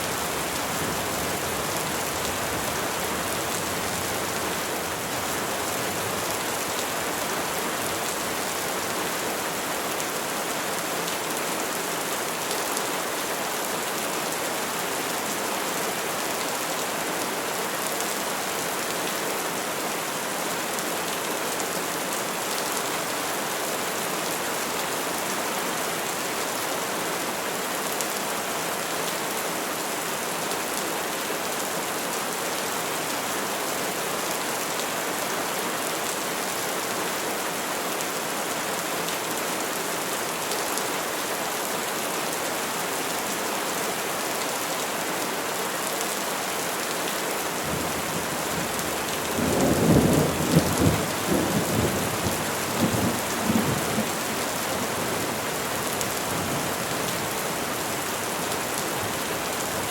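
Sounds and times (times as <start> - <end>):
rain on trees and foliage: 0.0 - 59.9.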